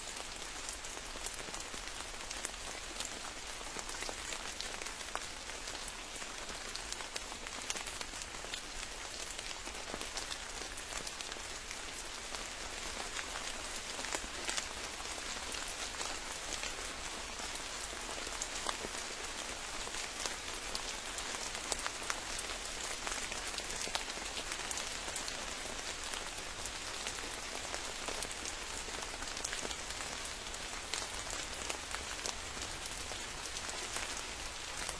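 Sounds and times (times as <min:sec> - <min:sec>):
steady rain falling: 0:00.0 - 0:34.9
raindrops ticking close by: 0:00.2 - 0:34.9.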